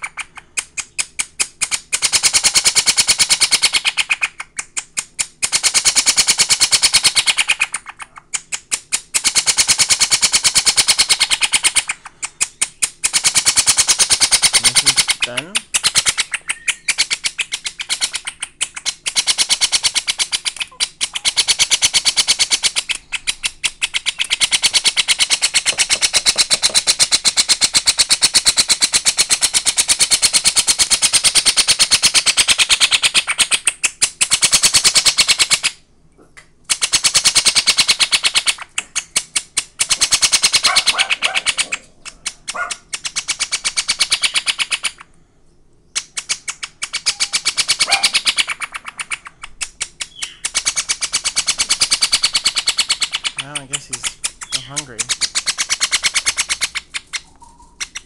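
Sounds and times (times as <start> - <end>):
parrot chick begging calls: 5.5 - 35.8, 36.7 - 45.0, 46.2 - 58.0.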